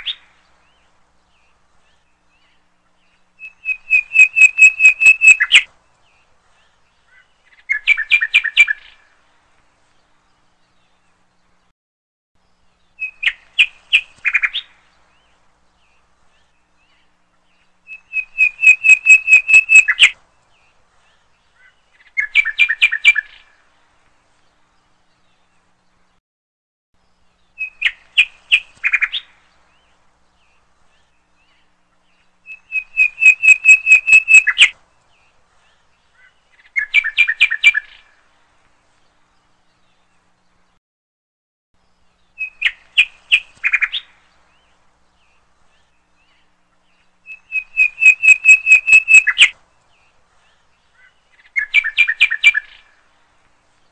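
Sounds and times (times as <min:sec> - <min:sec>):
bird chirping trills: 0:00.0 - 0:09.2, 0:12.4 - 0:23.7, 0:27.0 - 0:40.8, 0:41.8 - 0:53.9.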